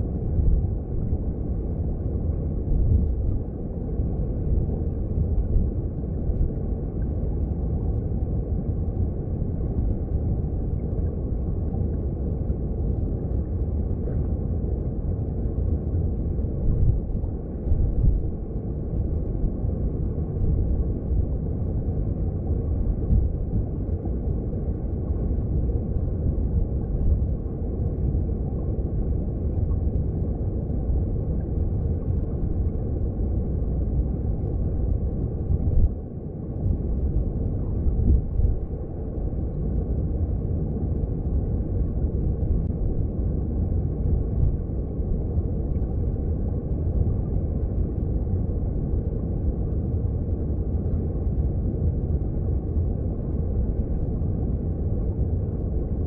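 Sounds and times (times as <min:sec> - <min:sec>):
underwater stream rumble: 0:00.0 - 0:56.0.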